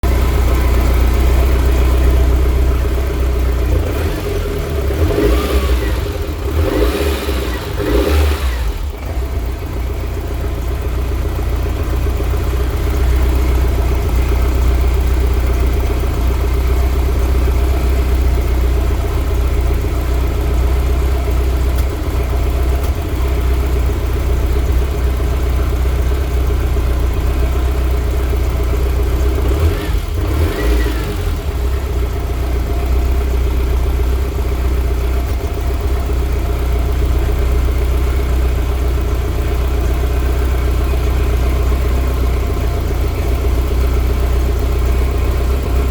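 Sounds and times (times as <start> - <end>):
car engine idling with misfire: 0.0 - 45.9.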